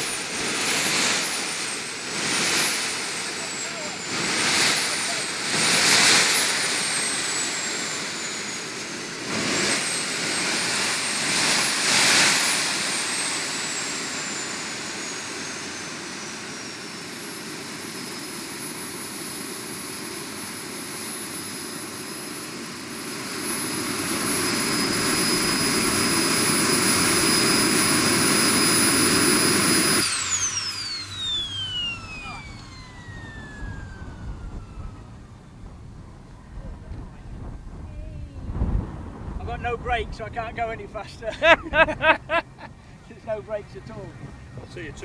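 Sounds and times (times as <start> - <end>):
jet turbine engine whine: 0.0 - 45.0
rushing jet exhaust: 0.0 - 45.0.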